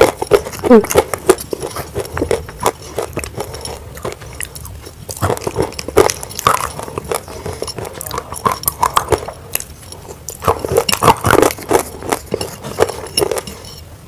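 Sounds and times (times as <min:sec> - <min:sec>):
crunching clay being chewed: 0:00.0 - 0:13.8.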